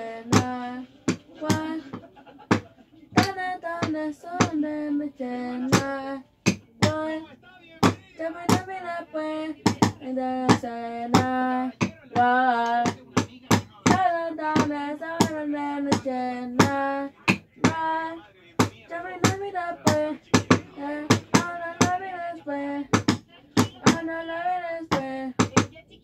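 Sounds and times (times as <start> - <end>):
person singing wordless melody: 0.0 - 2.1, 3.1 - 25.7.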